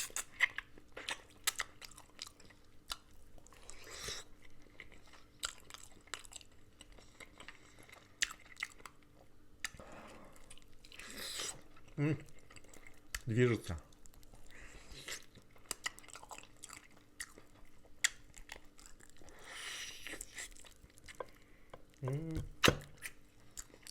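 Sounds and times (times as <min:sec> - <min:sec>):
chewing and gnawing on bones: 0:00.0 - 0:23.9.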